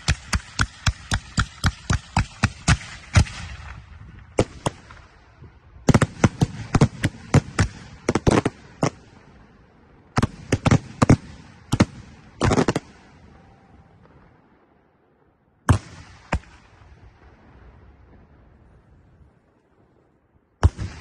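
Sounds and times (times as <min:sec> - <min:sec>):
fireworks bangs: 0:00.0 - 0:14.8, 0:15.6 - 0:21.0.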